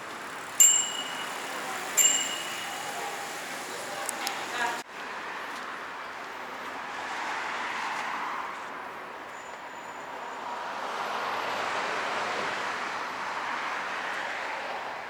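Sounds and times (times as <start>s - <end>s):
passing traffic rushing: 0.0s - 15.0s.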